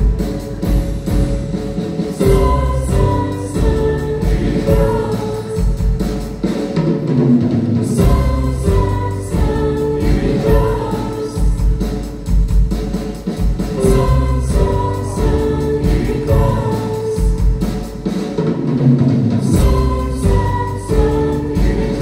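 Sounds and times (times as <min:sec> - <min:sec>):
group singing in harmony: 0:00.0 - 0:06.6, 0:07.7 - 0:12.4, 0:13.6 - 0:18.2, 0:19.4 - 0:22.0
drum kit: 0:00.0 - 0:22.0
piano: 0:00.0 - 0:22.0.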